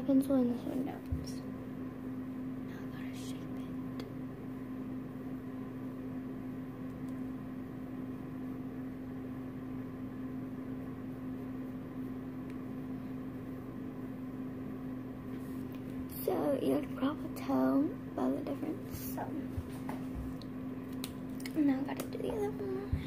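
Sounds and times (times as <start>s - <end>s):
appliance humming: 0.0s - 23.0s.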